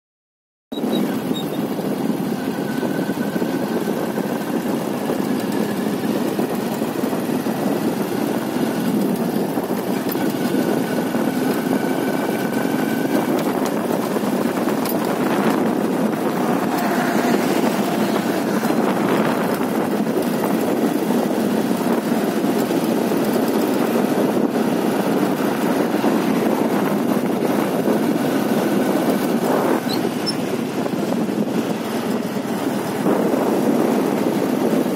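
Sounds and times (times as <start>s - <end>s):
motorcycle engine running: 0.7s - 34.9s
wind rush on microphone: 0.7s - 34.9s.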